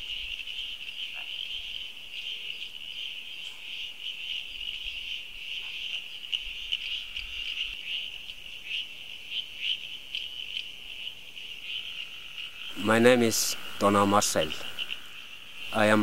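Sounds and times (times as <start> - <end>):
chorus of calling animals: 0.0 - 16.0.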